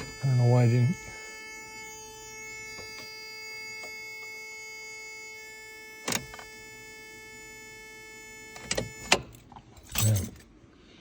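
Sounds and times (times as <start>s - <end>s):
steady electrical whine: 0.0s - 11.0s.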